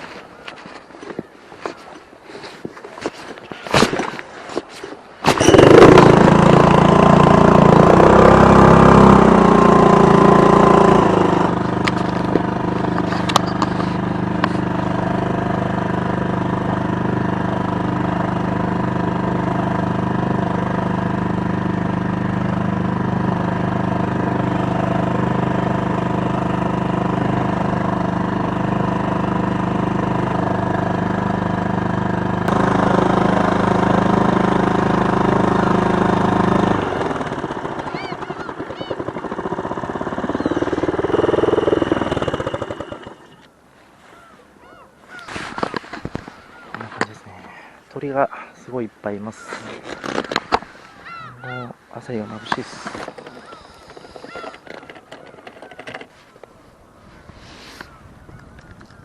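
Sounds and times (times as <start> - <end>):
outboard motor starting and idling: 0.1 - 59.0.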